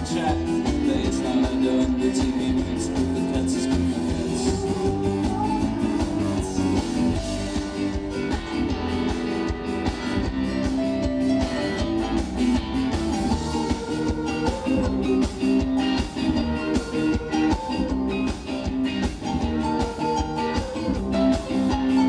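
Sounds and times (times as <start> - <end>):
drums: 0.0 - 22.0
electric guitars: 0.0 - 22.0
keyboard: 0.0 - 22.0.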